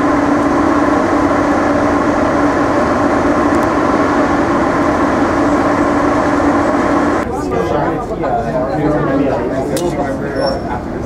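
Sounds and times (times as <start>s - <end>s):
aerial tram cabin droning: 0.0s - 11.0s.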